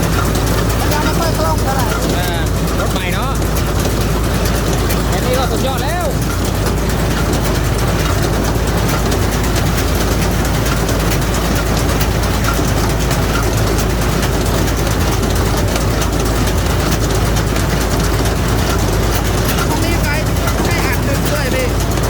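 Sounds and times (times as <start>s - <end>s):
baler engine hum: 0.0s - 22.0s
mechanical clatter: 0.0s - 22.0s.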